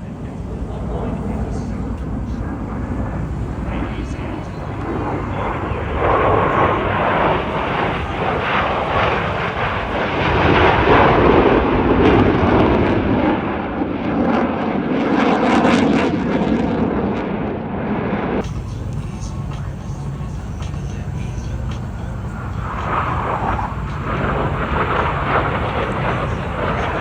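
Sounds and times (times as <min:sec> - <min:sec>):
jets flying past: 0:00.0 - 0:27.0.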